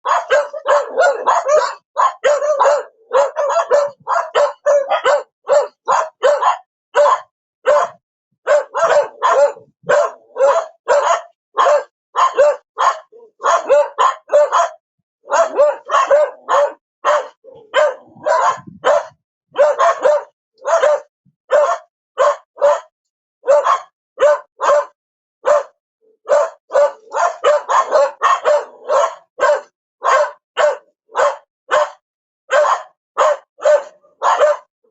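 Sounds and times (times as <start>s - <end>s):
dog barking: 0.0s - 34.9s.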